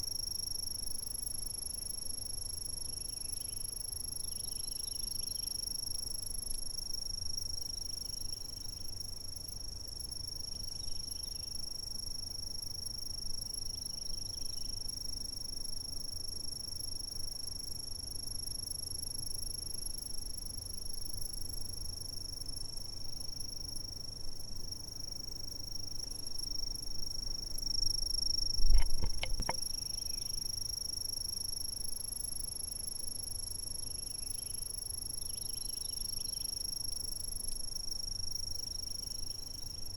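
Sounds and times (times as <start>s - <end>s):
faint insect chirps: 0.0s - 39.9s
insects trilling: 0.2s - 17.8s, 18.8s - 39.9s.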